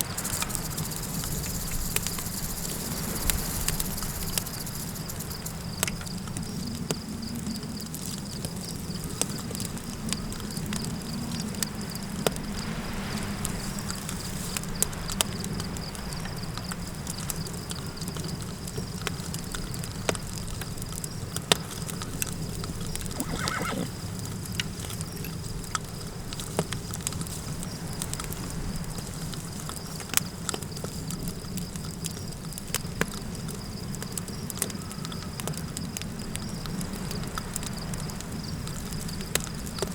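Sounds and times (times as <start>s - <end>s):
campfire crackling and popping: 0.0s - 12.7s, 13.4s - 39.9s
crickets chirring: 0.0s - 39.9s
night wind rumble: 0.0s - 39.9s.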